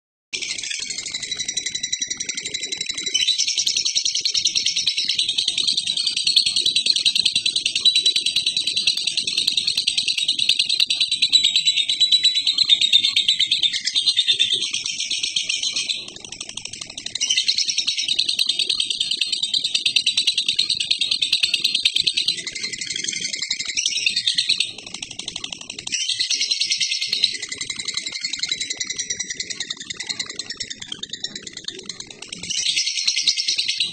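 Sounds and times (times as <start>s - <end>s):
bird chattering trill: 0.4s - 33.9s.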